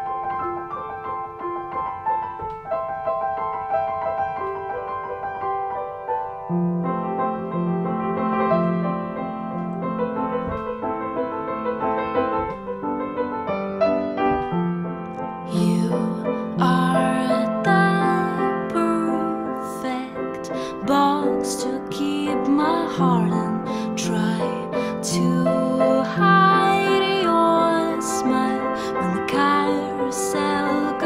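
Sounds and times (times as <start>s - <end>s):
slow piano music: 0.0s - 31.0s.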